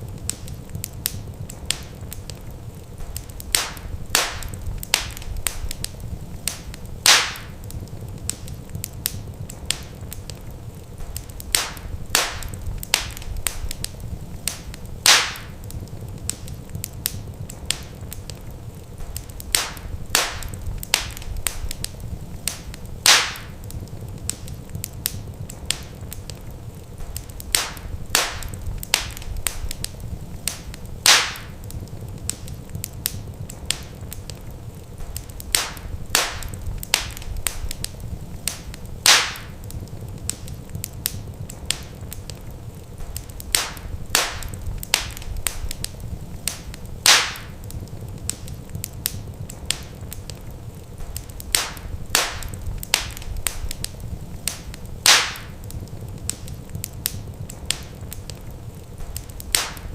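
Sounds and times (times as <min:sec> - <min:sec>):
burning logs popping and snapping: 0:00.0 - 0:59.9
steady low rumble: 0:00.0 - 0:59.9
wood fire crackling: 0:00.0 - 0:59.9.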